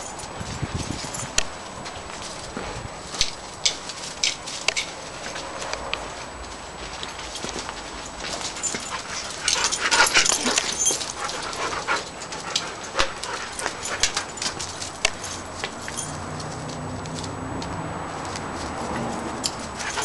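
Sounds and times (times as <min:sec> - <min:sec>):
dog moving about: 0:00.0 - 0:17.4, 0:18.2 - 0:20.0
sharp clicks and rustles: 0:00.0 - 0:20.0.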